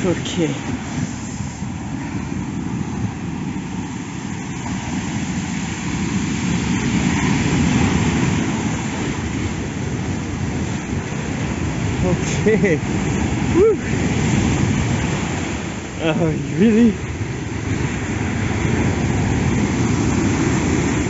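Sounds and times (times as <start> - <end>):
rough sea washing against rocks: 0.0 - 21.0
wind: 0.0 - 21.0.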